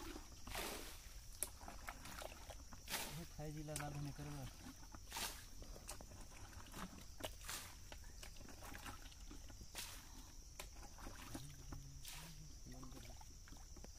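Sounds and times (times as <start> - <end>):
small splashes: 0.0 - 13.9.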